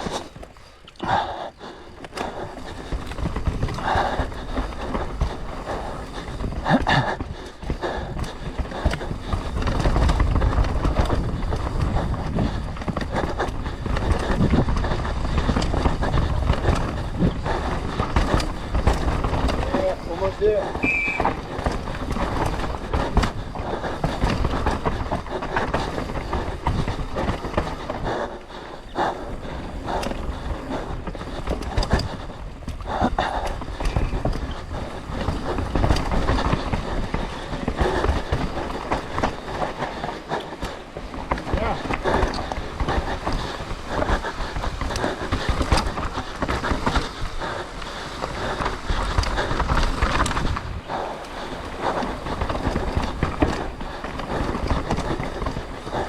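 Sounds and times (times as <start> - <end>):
bike clattering and rattling: 0.0 - 56.0
tyres rolling over dirt and rock: 0.0 - 56.0.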